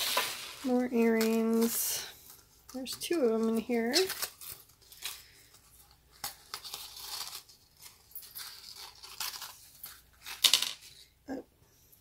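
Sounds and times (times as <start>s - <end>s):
cardstock cards crinkling: 0.0s - 11.1s.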